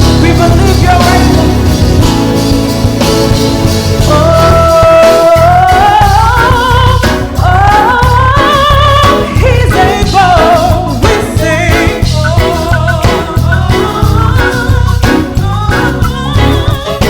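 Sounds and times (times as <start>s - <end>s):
band accompaniment: 0.0s - 17.0s
gospel singing voice: 0.0s - 17.0s.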